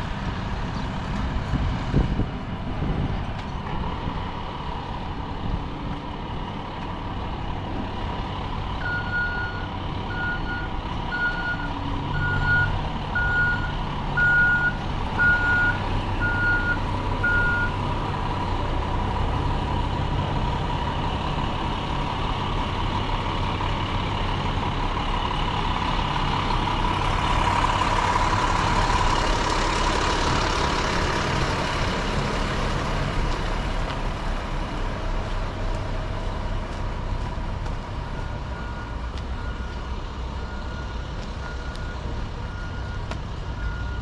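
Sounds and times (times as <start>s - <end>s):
vehicle engines rumbling: 0.0s - 44.0s.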